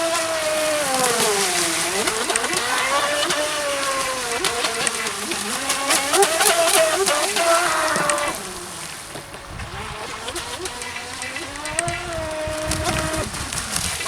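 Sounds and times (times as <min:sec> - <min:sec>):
rc boat motor whine: 0:00.0 - 0:14.0
short sharp splashes: 0:00.0 - 0:14.0.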